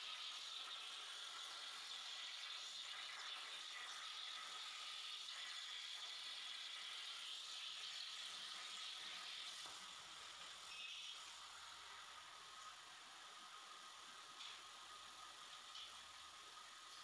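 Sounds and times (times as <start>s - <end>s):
plasma torch hissing: 0.0s - 17.0s.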